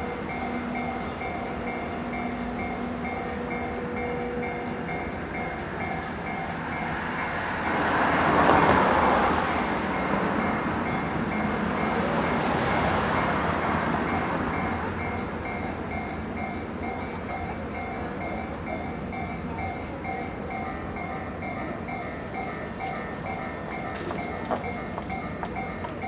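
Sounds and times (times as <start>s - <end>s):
passing train rumble: 0.0s - 26.0s.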